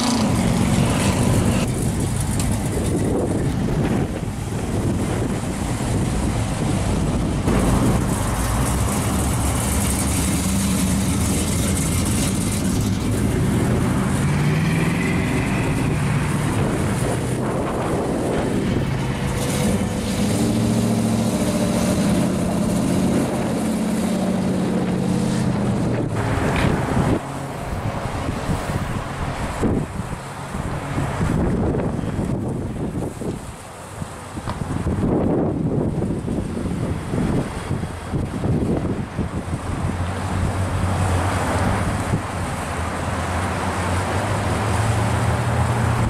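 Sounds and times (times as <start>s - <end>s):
cars driving by: 0.0s - 46.0s.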